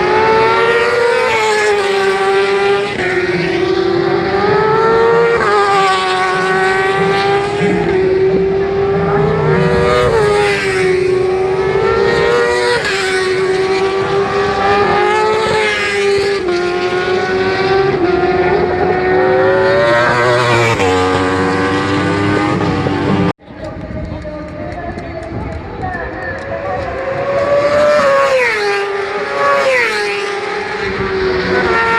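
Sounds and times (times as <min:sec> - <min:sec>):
motorcycle racing engines revving: 0:00.0 - 0:31.9.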